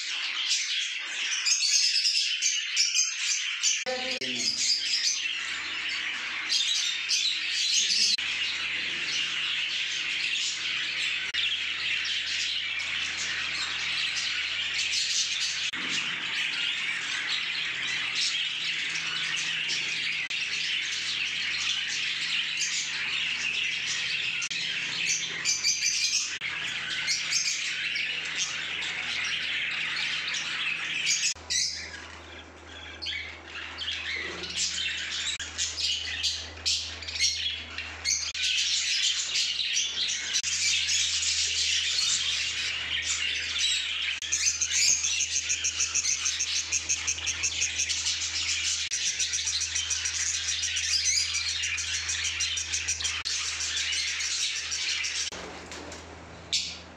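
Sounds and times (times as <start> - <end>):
budgerigars chattering and chirping: 0.0 - 55.4.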